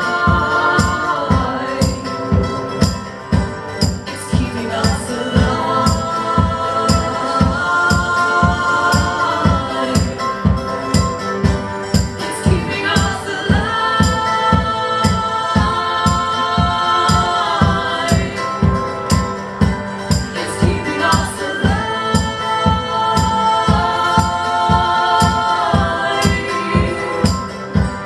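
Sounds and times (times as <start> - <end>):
live band music: 0.0 - 28.0
steady low drum beat: 0.0 - 28.0
tambourine-like high hits: 0.0 - 28.0.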